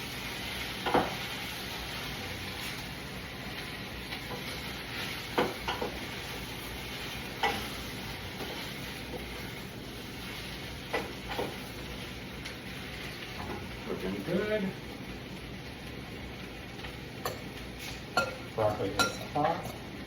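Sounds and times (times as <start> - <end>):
onions sizzling in a pot: 0.0 - 20.0.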